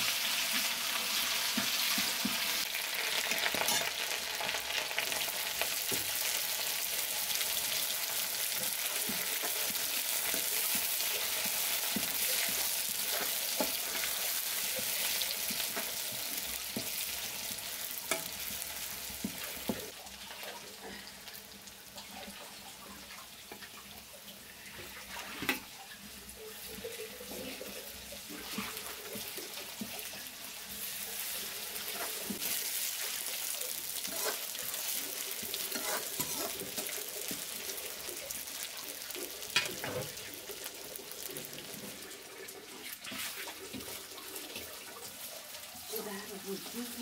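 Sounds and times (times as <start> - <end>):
food sizzling in hot oil: 0.0 - 47.0.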